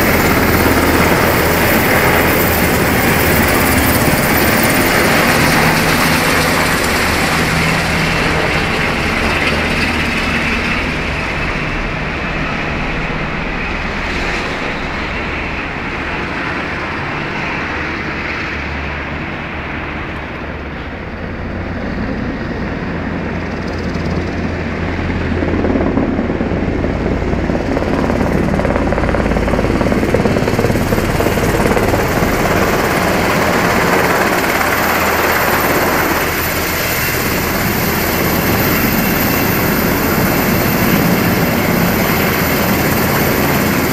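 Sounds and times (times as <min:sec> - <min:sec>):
helicopter rotor and turbine noise: 0:00.0 - 0:43.9.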